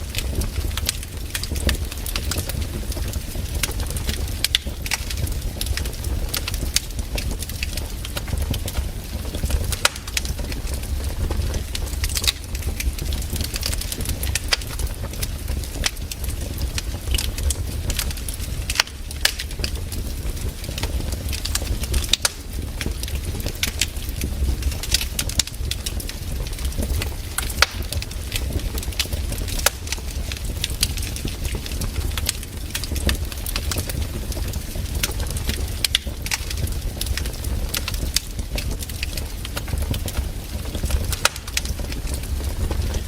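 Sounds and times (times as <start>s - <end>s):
campfire crackles and pops: 0.0s - 43.0s
low rumble of flames: 0.0s - 43.0s.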